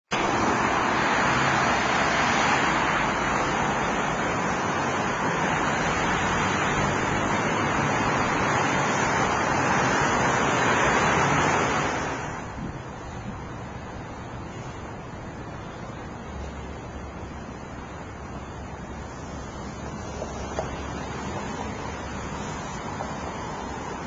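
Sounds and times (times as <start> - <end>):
freeway traffic rushing: 0.1 - 24.0.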